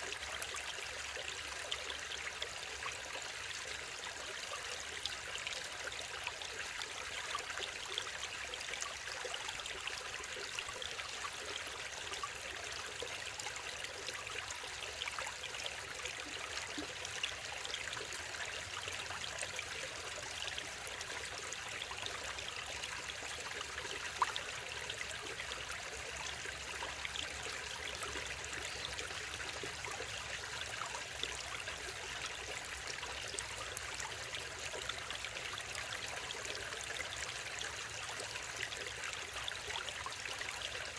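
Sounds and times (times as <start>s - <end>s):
stream water running over rocks: 0.0s - 40.9s.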